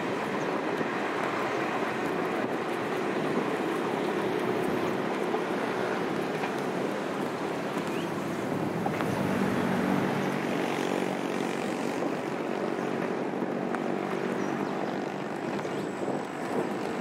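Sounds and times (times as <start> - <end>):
train rolling noise: 0.0 - 14.4
diesel engine hum: 0.0 - 17.0.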